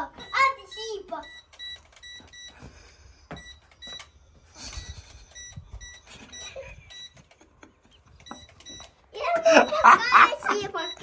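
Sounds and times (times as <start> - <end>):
remote controller beeps: 0.0 - 2.6, 3.3 - 11.0.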